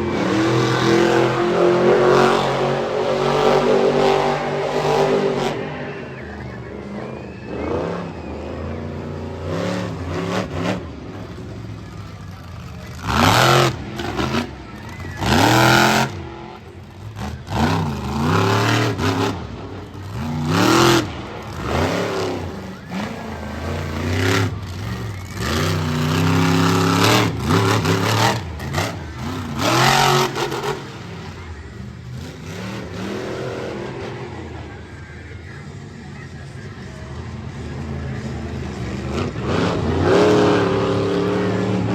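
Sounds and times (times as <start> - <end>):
truck engine revving hard: 0.0 - 35.2, 37.5 - 41.9.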